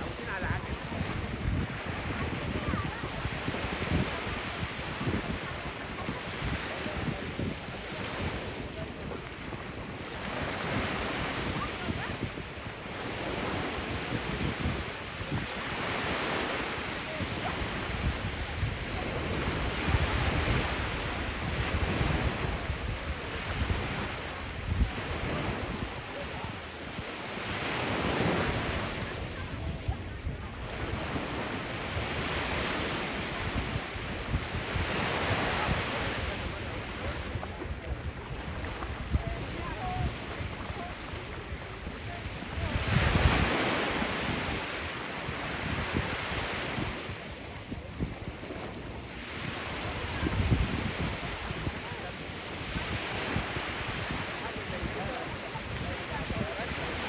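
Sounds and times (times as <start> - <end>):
ocean waves breaking on beach: 0.0 - 57.0
wind buffeting microphone: 0.0 - 57.0.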